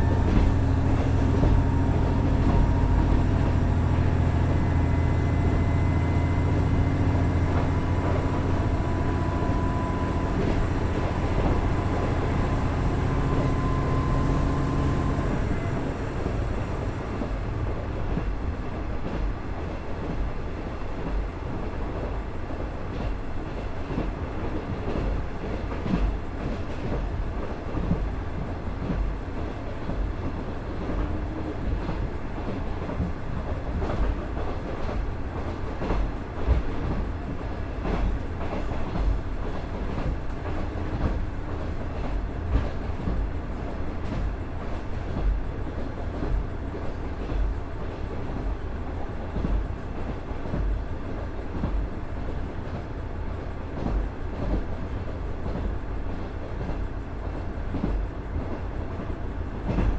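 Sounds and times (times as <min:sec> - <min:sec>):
railcar low rumble: 0:00.0 - 0:59.9.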